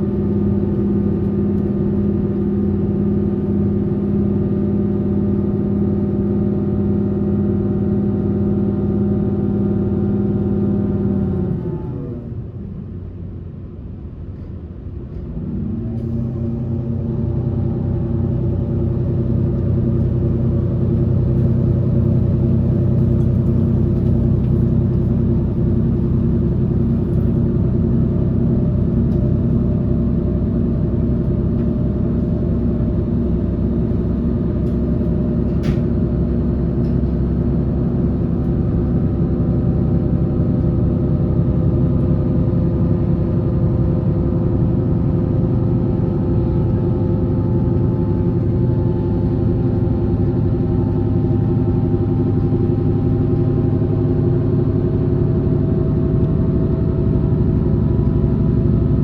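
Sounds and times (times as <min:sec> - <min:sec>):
wheels rumbling on rails: 0:00.0 - 0:59.0
train motors humming: 0:10.5 - 0:59.0.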